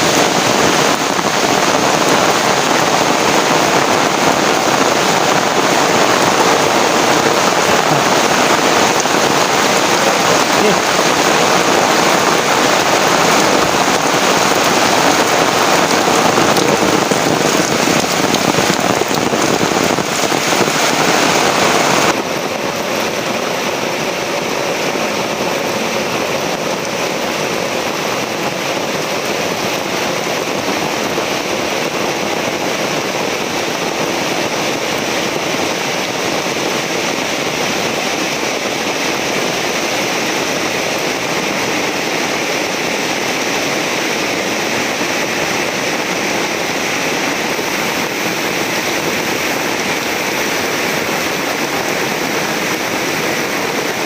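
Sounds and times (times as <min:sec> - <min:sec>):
dull steady rain: 0:00.0 - 0:54.0
heavy rain pouring: 0:00.0 - 0:54.0.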